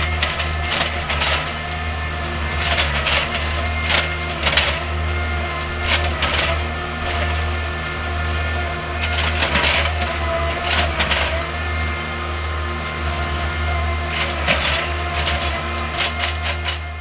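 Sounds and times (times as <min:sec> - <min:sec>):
engine low hum: 0:00.0 - 0:17.0
metallic clanks and clinks: 0:00.0 - 0:17.0.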